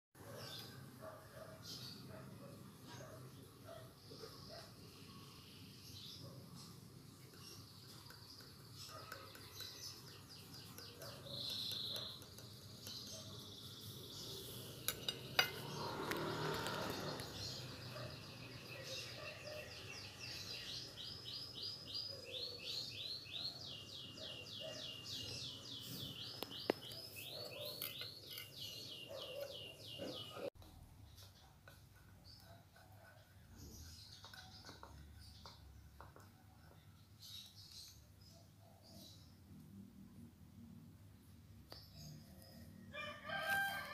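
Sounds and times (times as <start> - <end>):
birds chirping: 0.2 - 39.4.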